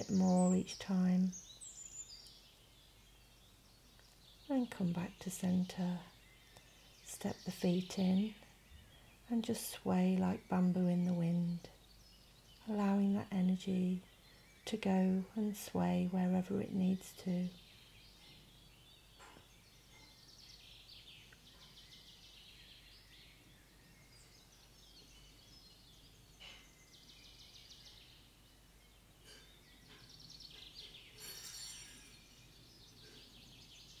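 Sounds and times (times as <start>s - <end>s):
small birds chirping and trilling: 0.0s - 34.0s.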